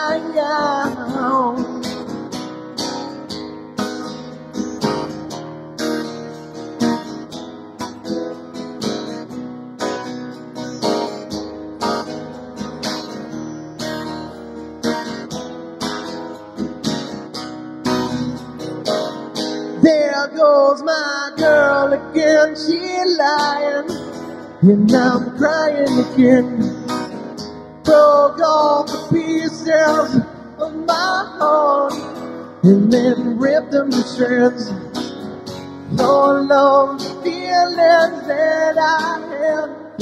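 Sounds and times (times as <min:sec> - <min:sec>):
guitar strummed in steady rhythm: 0:00.0 - 0:40.0.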